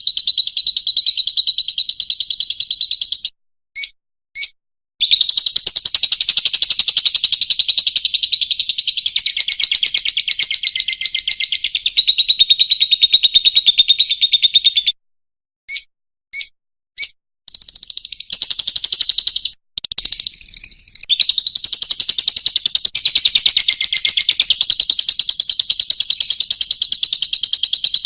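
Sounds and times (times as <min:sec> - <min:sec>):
lovebird chirps: 0:00.0 - 0:15.0, 0:15.7 - 0:28.0
lovebird chattering song: 0:00.1 - 0:14.9, 0:15.7 - 0:28.0.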